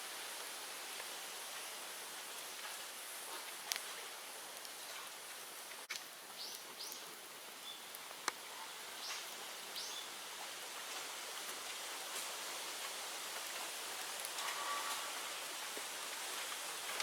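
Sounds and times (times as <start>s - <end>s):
bonfire hissing and crackling: 0.0s - 17.0s.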